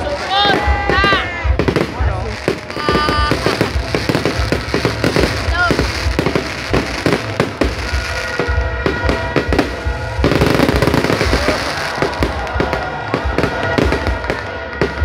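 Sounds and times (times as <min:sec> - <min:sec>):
fireworks bangs and crackling: 0:00.0 - 0:15.0
music: 0:00.0 - 0:15.0.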